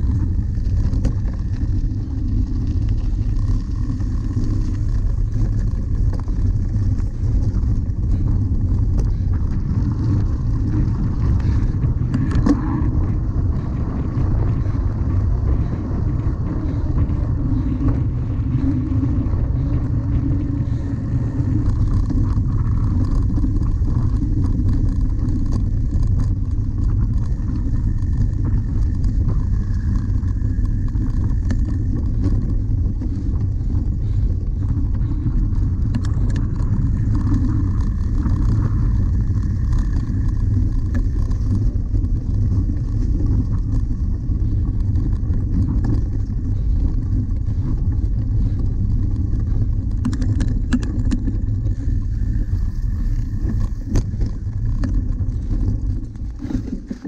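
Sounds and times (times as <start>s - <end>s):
bike rolling noise: 0.0s - 57.0s
wind rumble on microphone: 0.0s - 57.0s.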